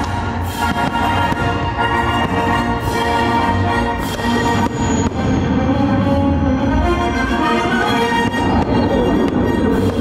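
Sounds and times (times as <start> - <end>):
orchestral music with held notes: 0.0 - 10.0.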